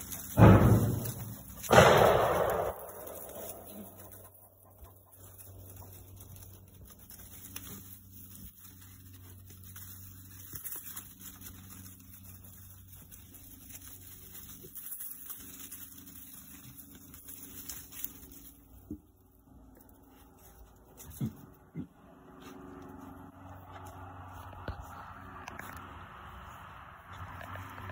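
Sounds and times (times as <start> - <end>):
faint low hum: 0.0 - 27.9
piglets rooting in dry leaves: 0.0 - 27.9
soft animal sounds: 1.1 - 27.9.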